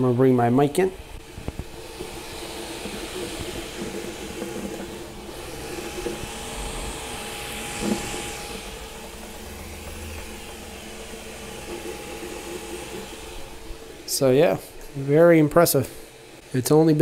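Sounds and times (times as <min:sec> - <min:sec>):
stepper motors humming: 0:00.0 - 0:16.8
cooling fans hissing: 0:00.0 - 0:17.0.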